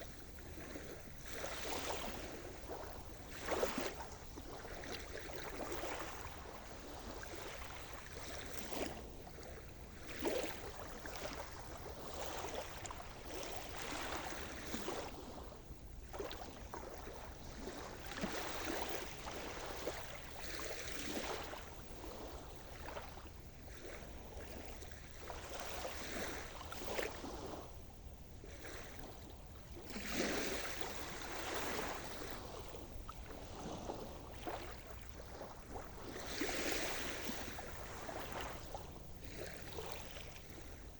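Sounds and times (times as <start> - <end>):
small waves breaking on shore: 0.0 - 40.9.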